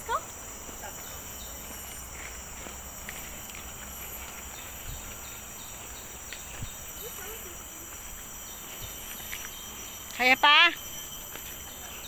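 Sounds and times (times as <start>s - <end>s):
footsteps on dirt trail: 0.0s - 12.0s
forest insects droning: 0.0s - 12.0s.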